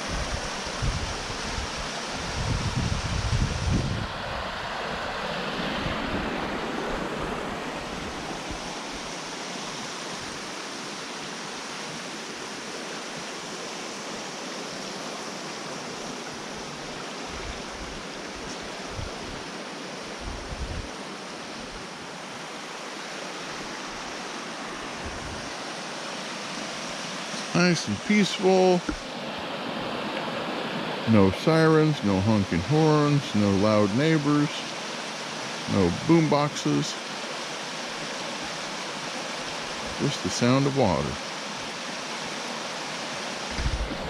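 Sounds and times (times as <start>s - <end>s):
creek water rushing: 0.0s - 44.0s.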